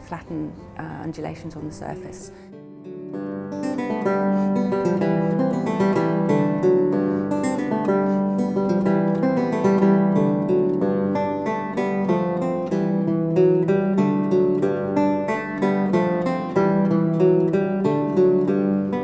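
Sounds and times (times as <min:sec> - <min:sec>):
acoustic guitar plucked notes: 0:00.0 - 0:19.0.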